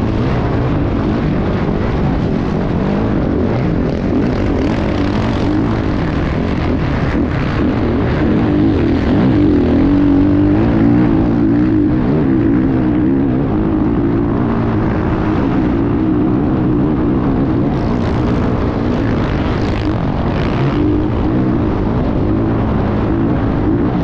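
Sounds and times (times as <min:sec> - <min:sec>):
motorcycle engine running hard: 0:00.0 - 0:24.0.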